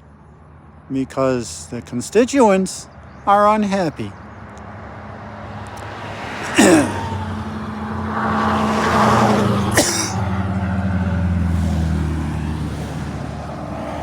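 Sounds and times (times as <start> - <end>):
highway traffic engine drone: 0.0 - 14.0.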